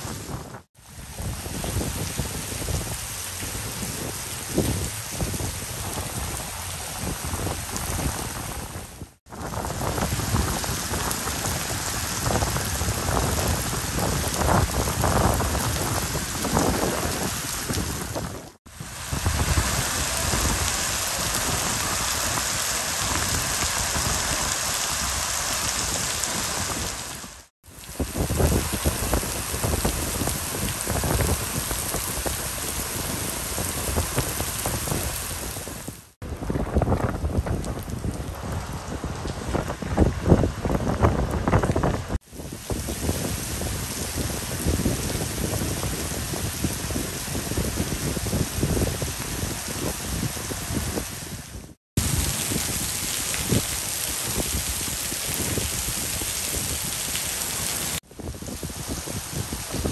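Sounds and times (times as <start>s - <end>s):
heavy rain on paving: 0.0s - 59.9s.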